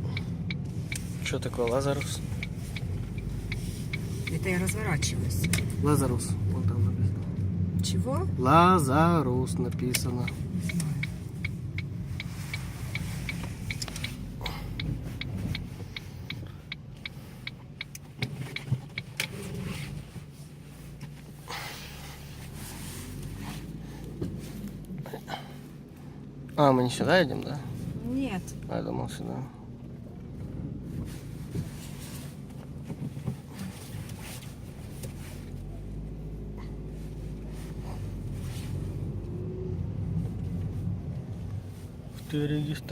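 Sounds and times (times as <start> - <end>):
turn signal ticking: 0.0 - 21.5, 22.2 - 42.9
car engine and road hum: 0.0 - 42.9.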